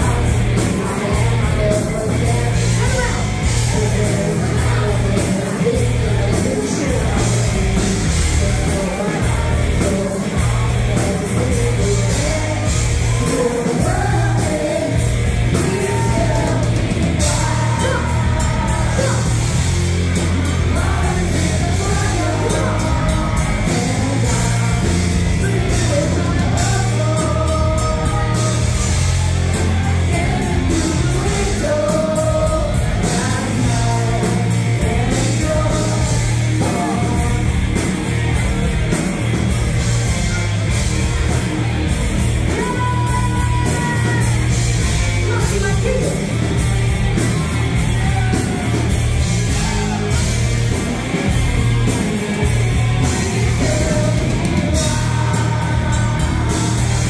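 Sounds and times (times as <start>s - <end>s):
person singing into microphone: 0.0s - 38.0s, 42.4s - 46.6s, 47.2s - 57.0s
drums: 0.0s - 57.0s
electric guitar: 0.0s - 57.0s.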